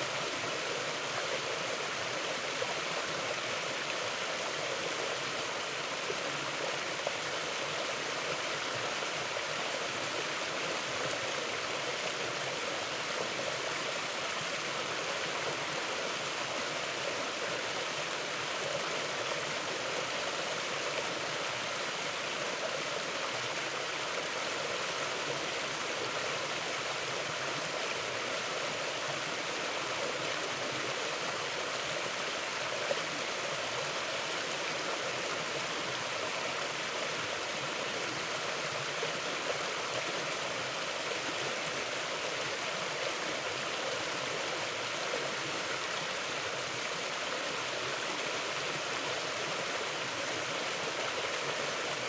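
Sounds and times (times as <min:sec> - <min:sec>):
river flowing over rocks: 0:00.0 - 0:52.0.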